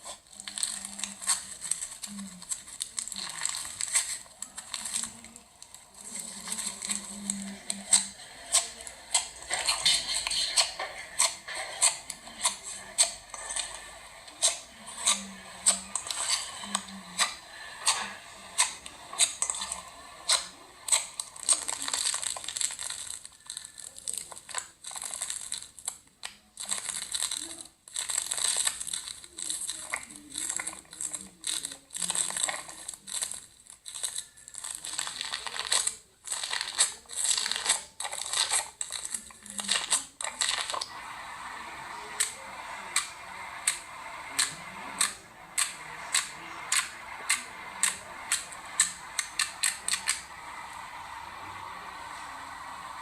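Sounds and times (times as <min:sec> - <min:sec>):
slime popping and crackling: 0:00.0 - 0:40.9, 0:42.1 - 0:51.1
hands squishing slime: 0:00.0 - 0:51.2.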